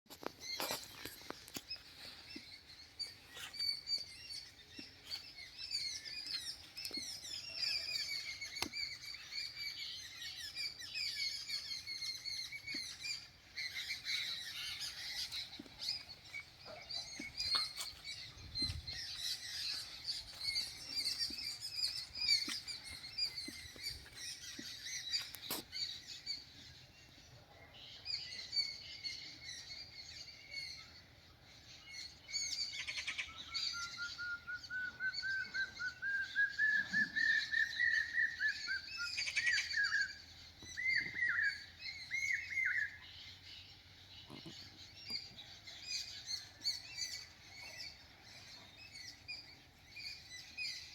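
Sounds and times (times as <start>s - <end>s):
small birds chirping: 0.1s - 50.9s.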